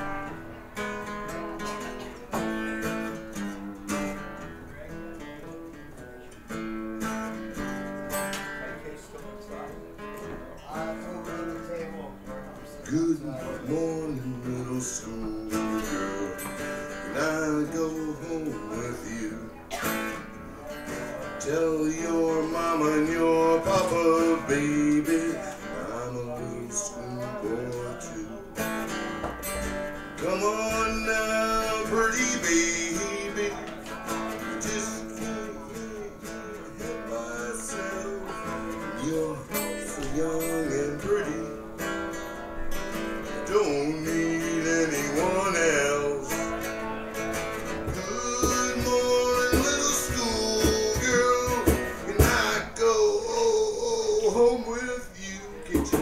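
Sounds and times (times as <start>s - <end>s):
acoustic guitar strummed and picked: 0.0s - 56.0s.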